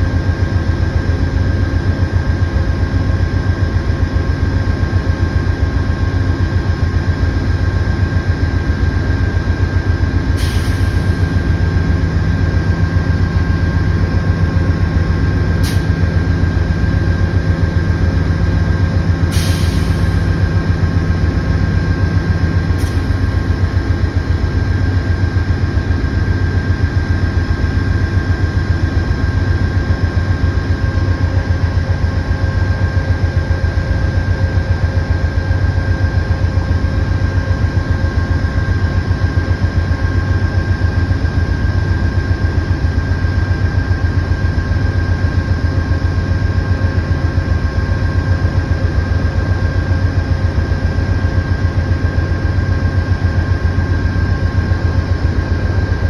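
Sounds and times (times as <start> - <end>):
diesel locomotive idling: 0.0 - 56.0.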